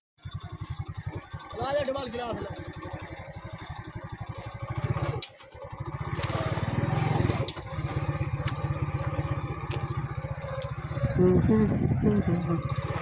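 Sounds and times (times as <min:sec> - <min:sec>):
motorcycle engine putter: 0:00.2 - 0:11.2.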